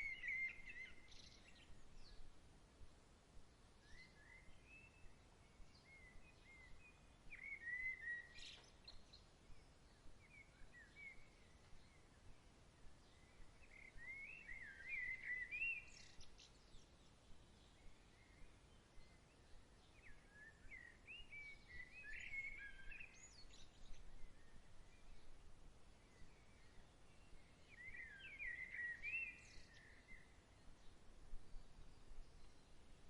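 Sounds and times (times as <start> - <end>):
soft background hiss: 0.0 - 33.0
songbirds chirping: 0.0 - 33.0.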